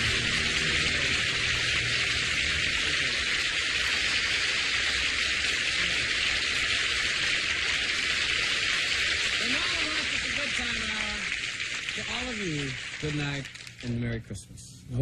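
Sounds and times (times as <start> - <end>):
tape hiss: 0.0 - 15.0.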